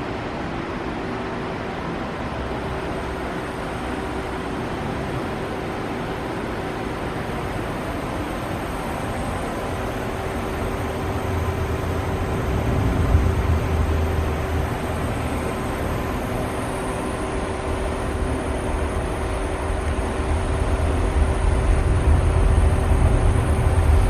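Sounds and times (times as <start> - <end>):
constant machine whine: 0.0 - 24.0
lathe machine hum: 2.5 - 24.0.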